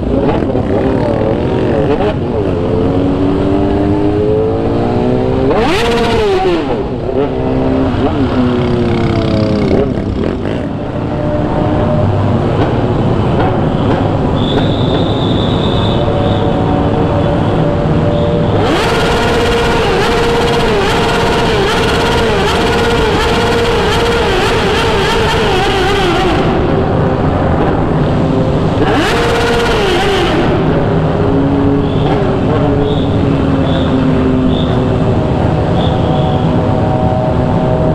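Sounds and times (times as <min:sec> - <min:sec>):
motorcycle engine hum: 0:00.0 - 0:37.9
road and wind noise: 0:00.0 - 0:37.9.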